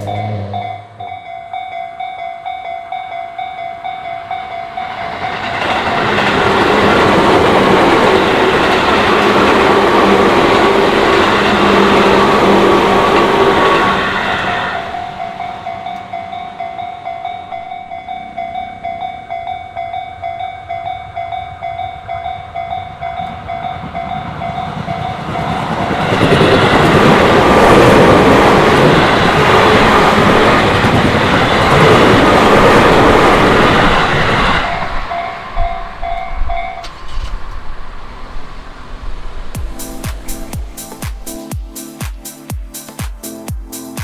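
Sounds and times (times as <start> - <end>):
level-crossing warning bell: 0.0 - 37.1
electric train passing: 0.0 - 44.0.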